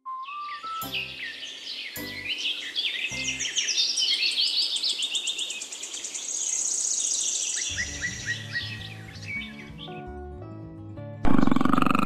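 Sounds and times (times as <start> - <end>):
songbirds chirping: 0.1 - 10.3.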